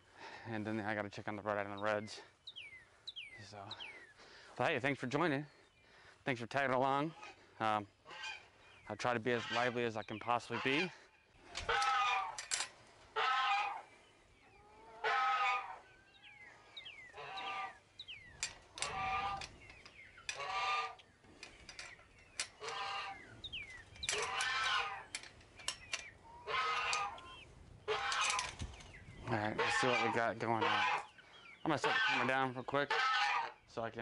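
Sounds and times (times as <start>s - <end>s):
poultry calling: 5.2s - 33.7s.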